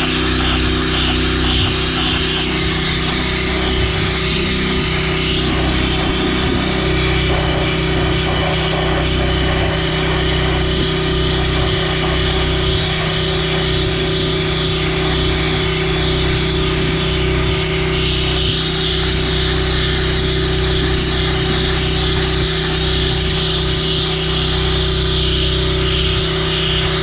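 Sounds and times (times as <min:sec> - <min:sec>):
pressure washer motor hum: 0:00.0 - 0:27.0
water and sand jet hissing: 0:00.0 - 0:27.0.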